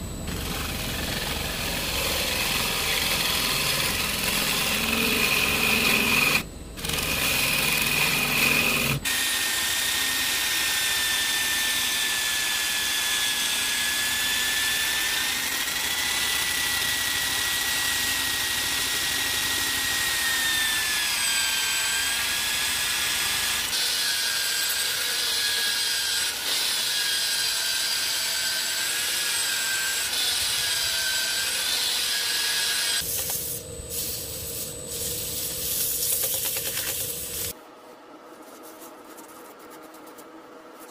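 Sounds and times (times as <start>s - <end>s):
drill motor whine: 0.0s - 35.6s
gouge cutting spinning wood: 0.3s - 33.1s.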